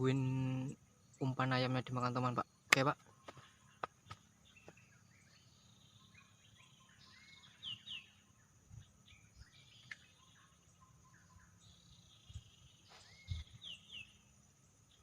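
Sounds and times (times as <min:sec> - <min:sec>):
high insect hum: 0:00.0 - 0:15.0
small birds chirping: 0:00.0 - 0:15.0.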